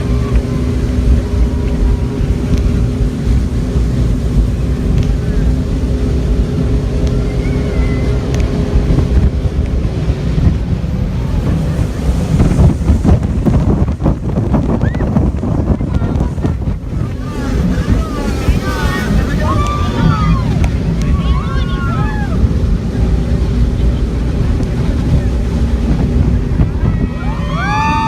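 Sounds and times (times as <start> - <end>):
boat engine rumbling: 0.0 - 28.0
wind buffeting microphone: 0.0 - 28.0.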